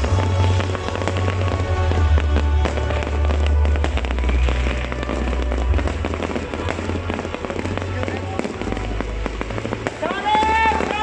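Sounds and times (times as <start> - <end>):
fireworks bursting and crackling: 0.0 - 11.0
loud music with heavy bass: 0.0 - 11.0.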